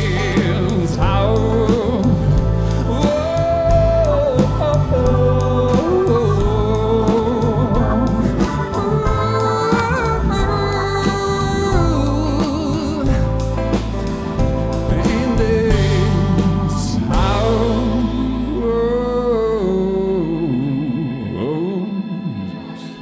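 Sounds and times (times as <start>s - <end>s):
drums keeping a beat: 0.0s - 19.3s
live rock band: 0.0s - 20.2s
bass: 0.0s - 23.0s
lead melody line: 0.0s - 23.0s.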